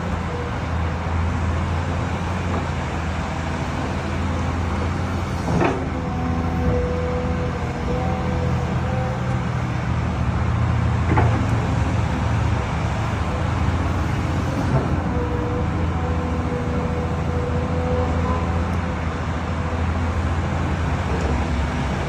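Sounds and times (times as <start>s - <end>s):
excavator engine humming: 0.0s - 22.0s.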